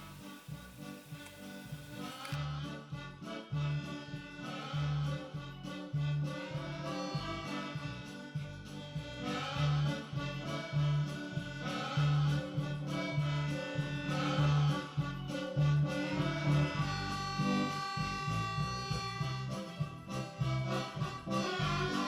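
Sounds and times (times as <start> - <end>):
accordion tune: 0.0 - 22.0.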